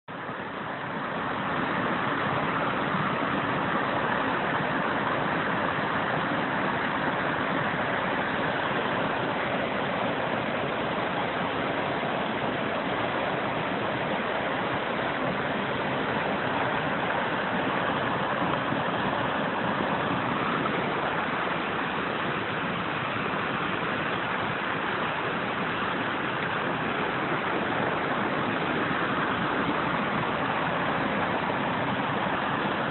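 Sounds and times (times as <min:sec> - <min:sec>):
waterfall splashing on rocks: 0:00.1 - 0:32.9.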